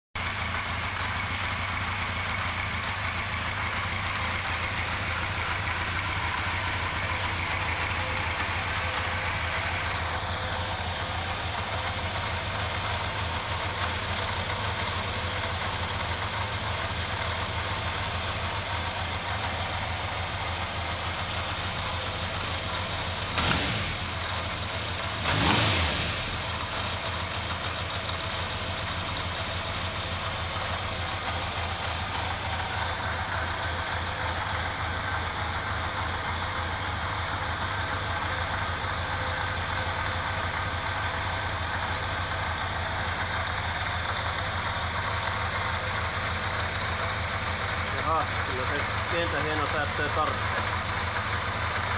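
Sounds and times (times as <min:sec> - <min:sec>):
motorcycle engine idling and revving: 0:00.1 - 0:51.9.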